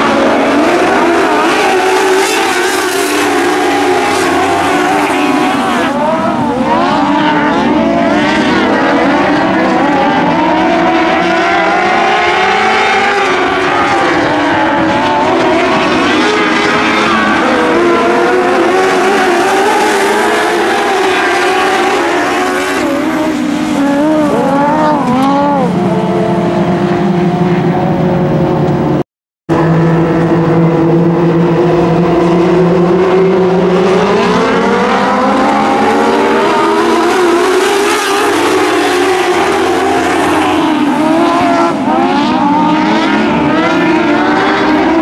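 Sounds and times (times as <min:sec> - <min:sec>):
small race car engines revving: 0:00.0 - 0:28.9, 0:29.5 - 0:45.0.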